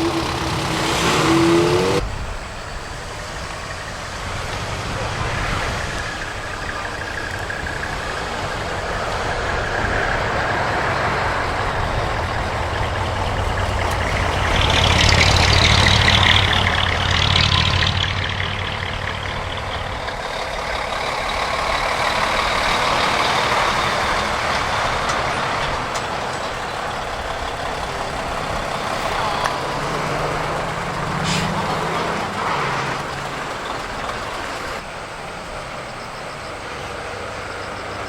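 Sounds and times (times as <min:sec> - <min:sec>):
hiss rush: 0:00.0 - 0:37.1
truck engine passing: 0:00.0 - 0:38.0.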